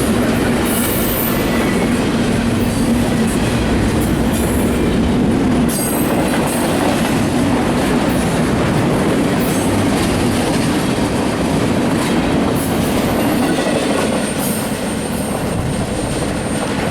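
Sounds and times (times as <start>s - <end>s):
freight train cars rolling: 0.0s - 16.9s.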